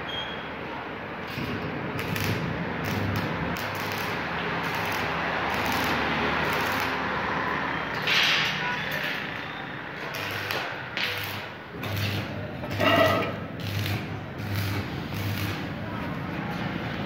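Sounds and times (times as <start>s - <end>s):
low welder hum: 1.2s - 17.0s
welding arc crackling and hissing: 1.3s - 7.4s, 8.0s - 15.8s.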